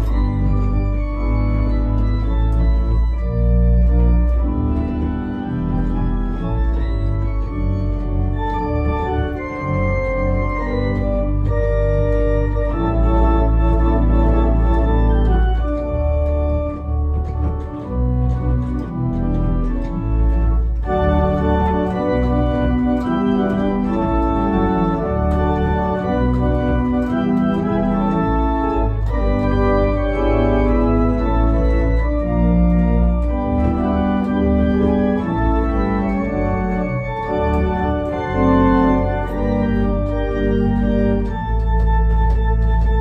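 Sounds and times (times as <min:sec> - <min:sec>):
church organ playing hymn: 0:00.0 - 0:43.0.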